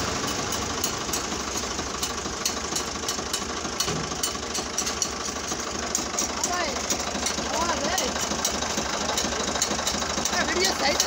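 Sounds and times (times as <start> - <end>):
tractor engine knocking clatter: 0.0 - 11.0.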